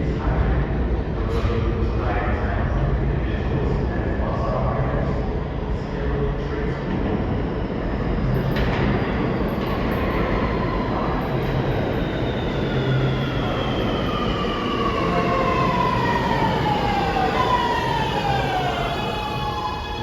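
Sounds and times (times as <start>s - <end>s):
falling multi-tone train whine: 0.0s - 20.0s
subway train rumbling: 0.0s - 20.0s.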